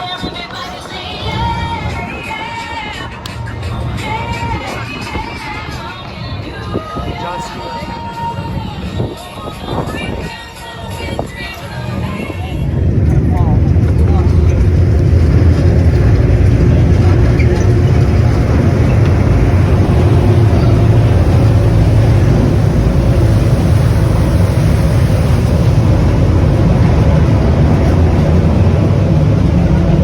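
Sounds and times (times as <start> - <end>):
boat engine rumble: 0.0 - 30.0
wind noise on microphone: 0.0 - 30.0.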